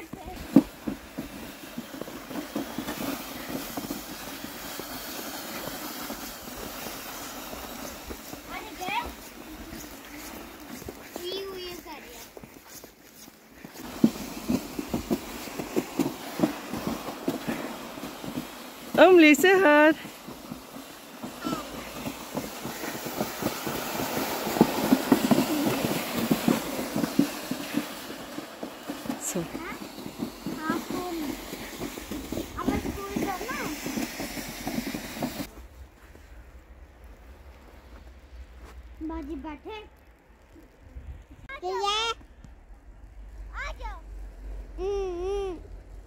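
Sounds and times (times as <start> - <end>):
footsteps crunching in snow: 0.0 - 39.4
plastic sled sliding over snow: 0.0 - 42.1, 42.9 - 46.0.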